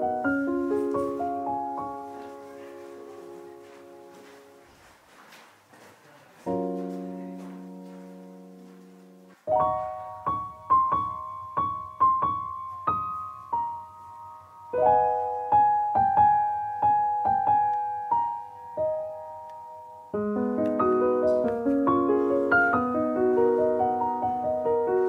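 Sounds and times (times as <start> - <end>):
slow piano melody: 0.0 - 5.1, 6.4 - 25.0.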